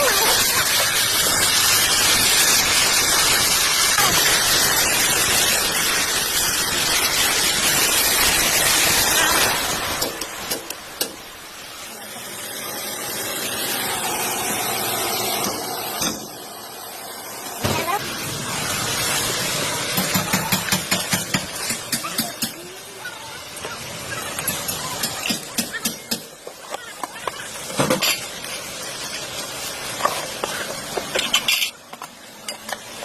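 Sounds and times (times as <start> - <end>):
road and tyre noise: 0.0 - 33.0.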